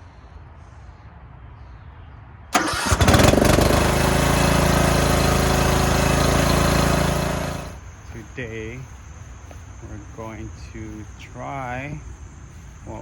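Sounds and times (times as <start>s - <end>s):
riding lawn mower engine: 2.6s - 13.0s.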